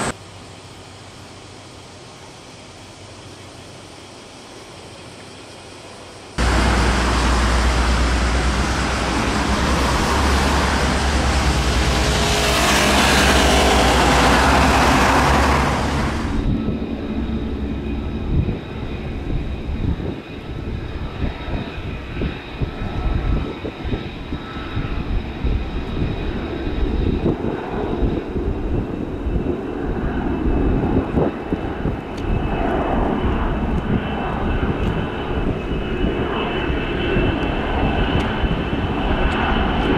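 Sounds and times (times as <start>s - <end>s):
jet engine whining: 0.0s - 39.9s
loud rushing roar with deep rumble: 6.4s - 39.9s.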